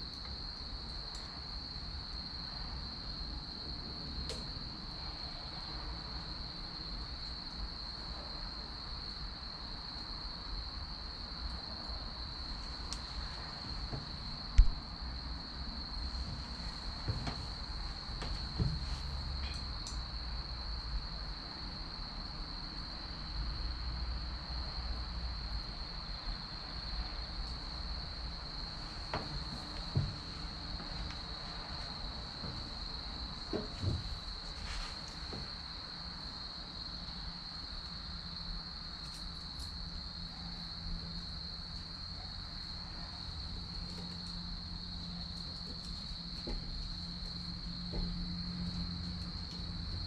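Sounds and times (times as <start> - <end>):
faint crackles of wood fire: 0.0 - 50.0
high-pitched cricket trill: 0.0 - 50.0.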